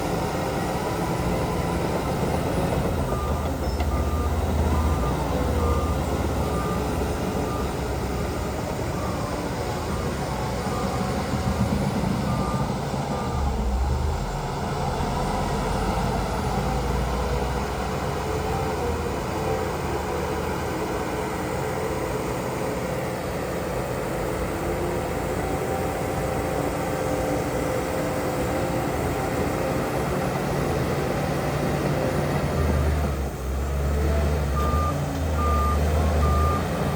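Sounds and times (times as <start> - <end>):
diesel machinery engine rumble: 0.0 - 36.9.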